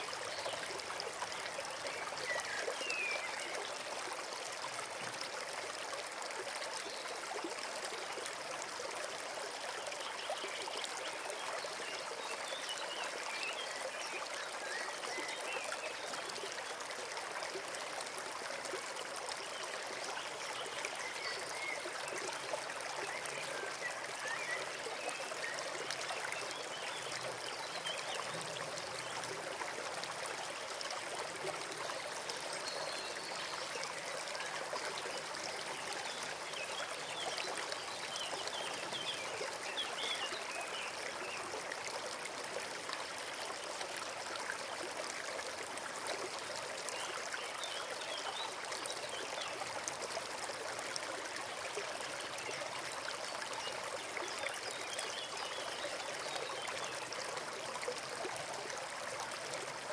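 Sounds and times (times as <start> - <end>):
forest stream flowing: 0.0 - 59.9.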